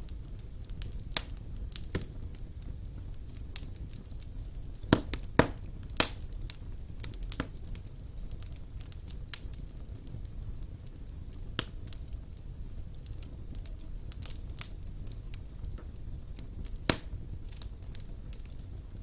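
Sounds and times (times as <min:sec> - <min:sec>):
fire crackling and popping: 0:00.0 - 0:19.0
low rumble of flame: 0:00.0 - 0:19.0.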